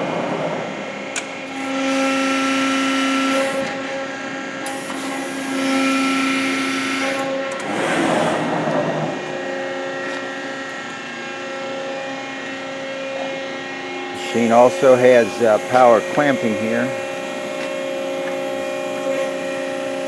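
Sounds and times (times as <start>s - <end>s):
hydraulic pump whining: 0.6s - 20.0s.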